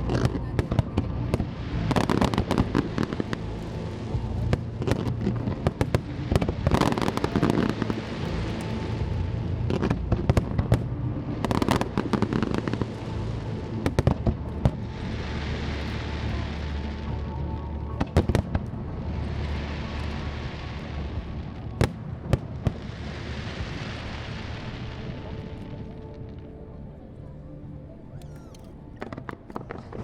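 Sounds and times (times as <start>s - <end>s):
fireworks bangs and crackles: 0.0s - 17.0s, 18.0s - 25.7s.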